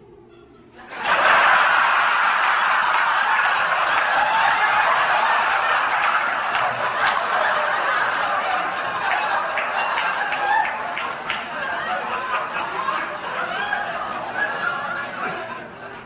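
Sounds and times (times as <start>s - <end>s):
audience laughing loudly: 0.8s - 16.0s.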